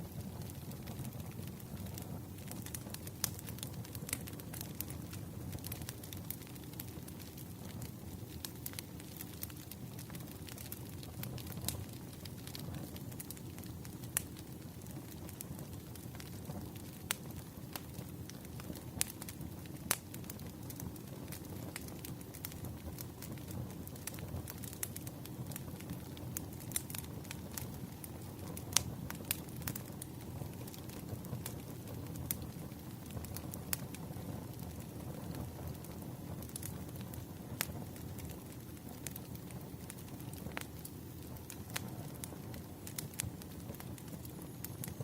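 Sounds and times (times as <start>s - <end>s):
logs crackling and popping: 0.0s - 45.0s
wood fire rumble: 0.0s - 45.0s.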